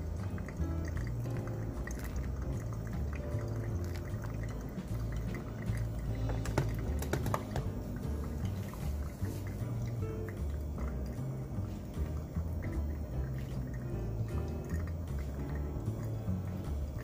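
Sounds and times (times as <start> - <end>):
coffee dripping into glass server: 0.0 - 17.0
hot water pouring from kettle: 0.0 - 17.0.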